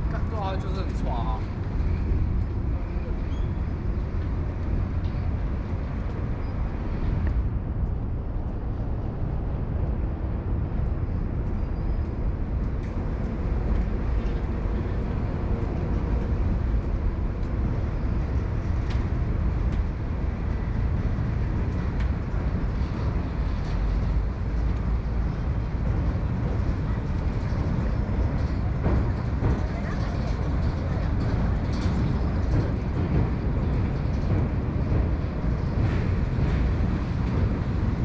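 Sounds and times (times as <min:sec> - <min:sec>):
low rumble of train: 0:00.0 - 0:38.0.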